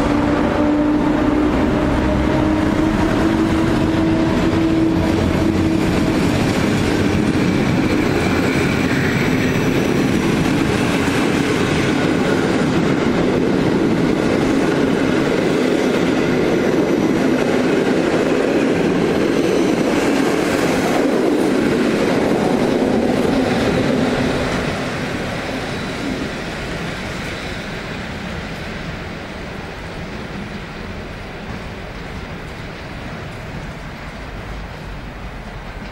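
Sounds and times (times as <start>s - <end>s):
train coaches rolling past: 0.0s - 35.9s.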